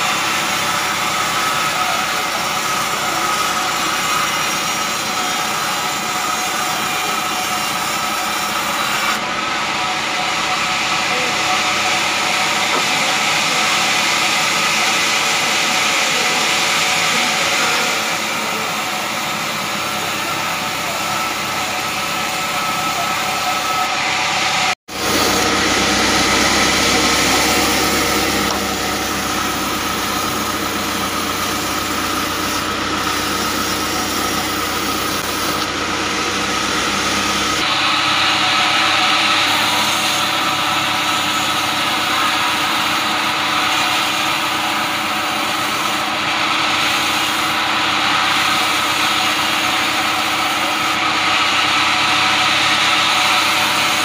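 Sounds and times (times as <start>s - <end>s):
band saw cutting logs: 0.0s - 54.0s.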